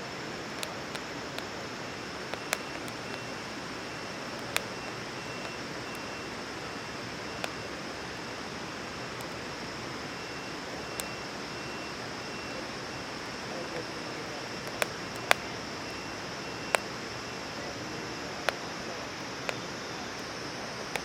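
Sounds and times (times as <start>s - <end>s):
campfire hissing and popping: 0.0s - 21.0s.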